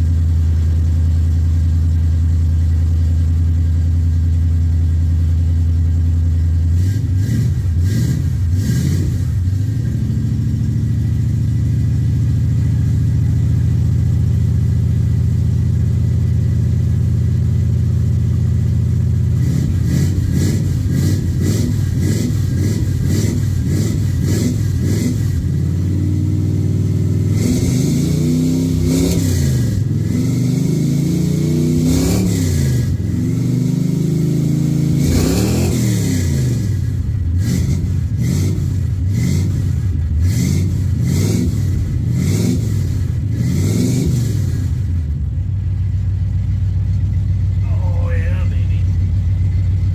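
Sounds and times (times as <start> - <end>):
pickup truck engine idling and revving: 0.0 - 49.9.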